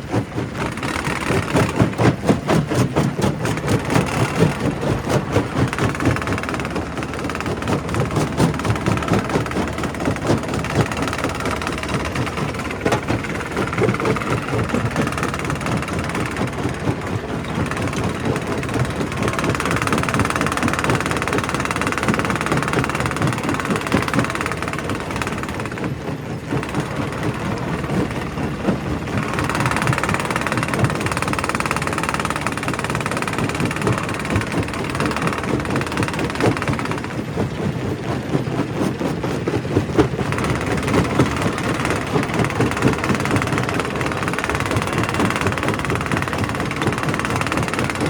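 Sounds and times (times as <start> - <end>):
rock crusher mechanical din: 0.0 - 48.0.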